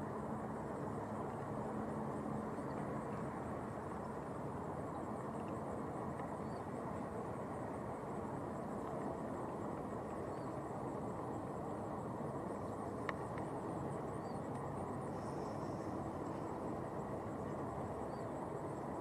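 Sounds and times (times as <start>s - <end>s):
low outdoor background noise: 0.0s - 19.0s.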